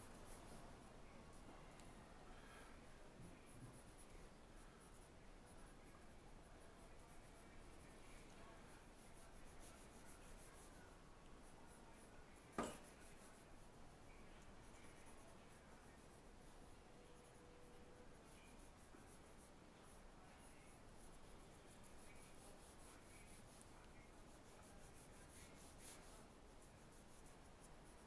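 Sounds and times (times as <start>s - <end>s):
pencil scratching on paper: 0.0s - 28.0s.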